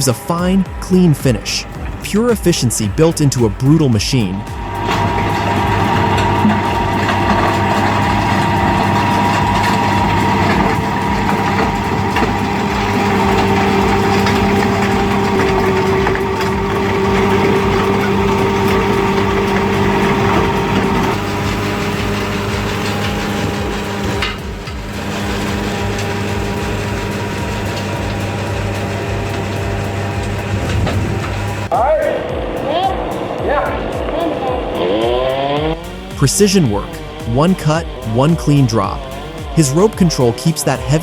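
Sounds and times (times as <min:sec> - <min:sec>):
drum working the ground: 0:00.0 - 0:41.0
land-clearing machine engine: 0:00.0 - 0:41.0.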